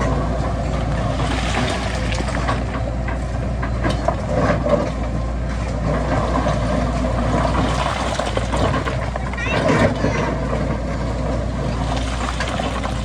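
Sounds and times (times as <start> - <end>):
diesel machinery running: 0.0 - 13.0
metal clanks and knocks: 0.4 - 13.0.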